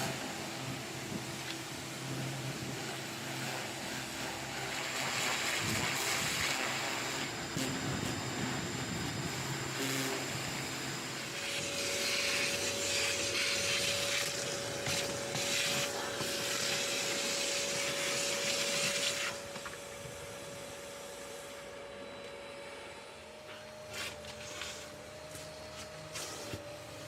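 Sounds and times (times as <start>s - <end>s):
cleaning machine motor whine: 0.0s - 27.0s.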